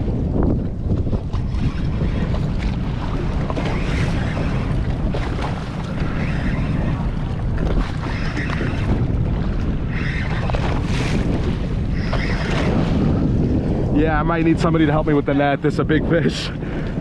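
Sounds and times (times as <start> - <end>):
water slapping against hull: 0.0 - 17.0
wind buffeting microphone: 0.0 - 17.0.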